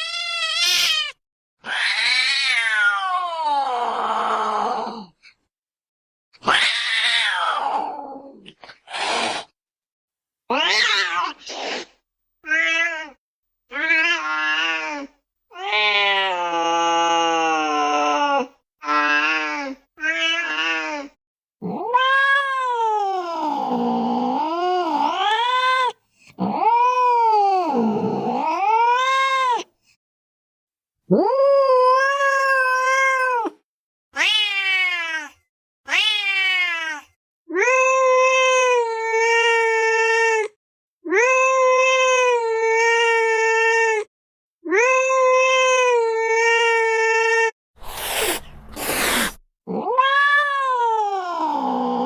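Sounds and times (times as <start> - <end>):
cat yowling meows: 0.0 - 4.8, 6.4 - 8.4, 10.5 - 11.4, 12.4 - 29.7, 31.1 - 33.6, 34.2 - 48.2, 48.8 - 52.0.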